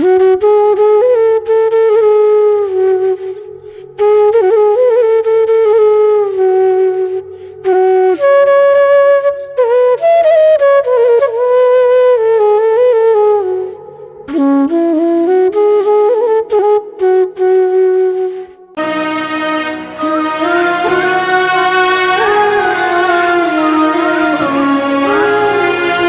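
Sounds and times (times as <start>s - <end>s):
flute melody: 0.0s - 26.0s.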